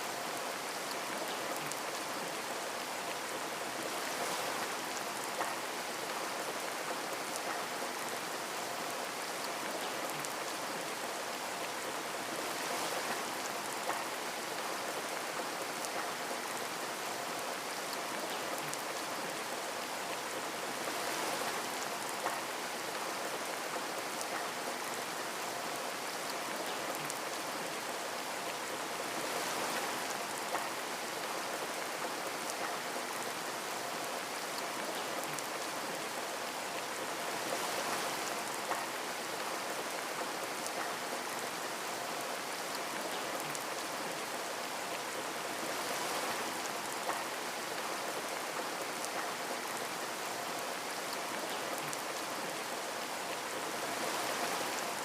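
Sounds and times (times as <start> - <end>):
rain on a window pane: 0.0 - 55.0.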